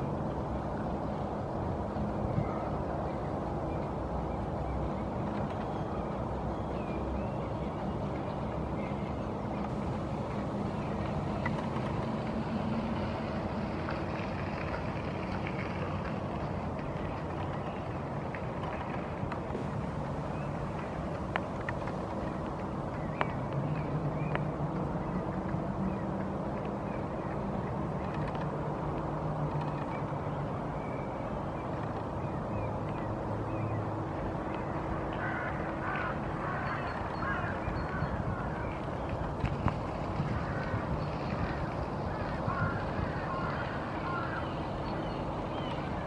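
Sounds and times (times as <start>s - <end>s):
low background rumble: 0.0s - 46.0s
low engine drone: 0.0s - 46.0s.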